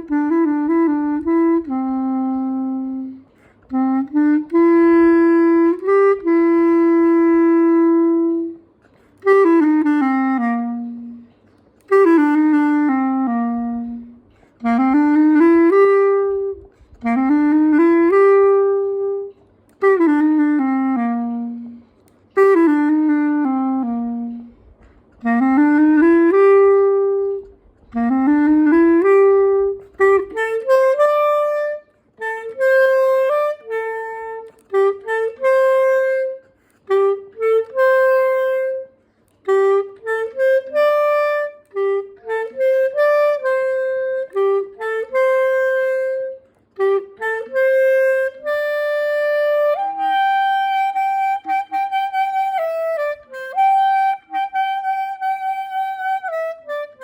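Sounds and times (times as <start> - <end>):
solo wind instrument melody: 0.0 - 57.0.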